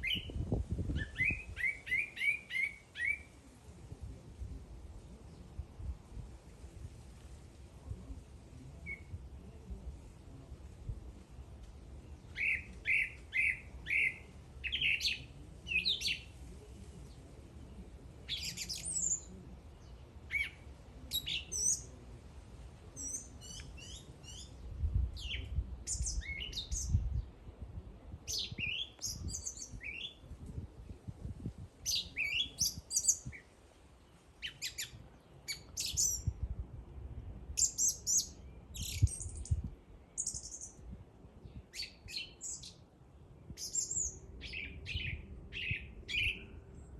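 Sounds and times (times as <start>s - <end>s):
songbird singing: 0.0s - 3.5s, 7.9s - 22.0s, 22.8s - 46.9s.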